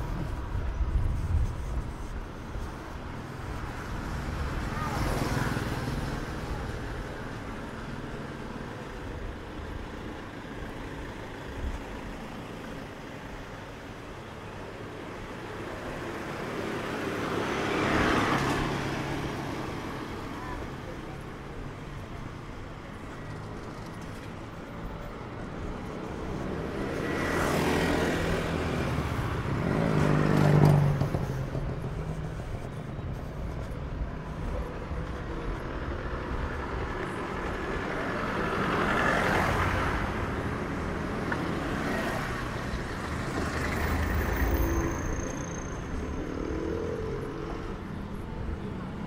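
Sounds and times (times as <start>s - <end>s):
street background noise: 0.0s - 49.0s
vehicles driving past: 0.0s - 49.0s.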